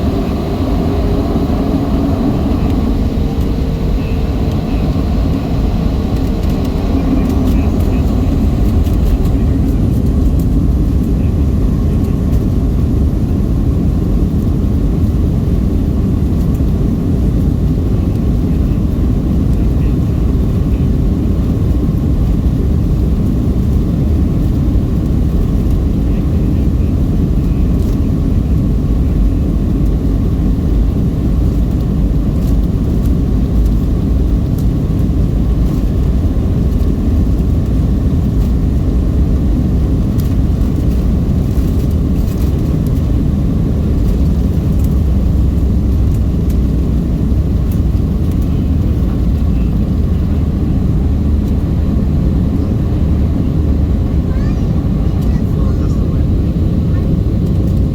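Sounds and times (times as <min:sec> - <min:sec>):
jet engine and airflow rumble: 0:00.0 - 0:57.9.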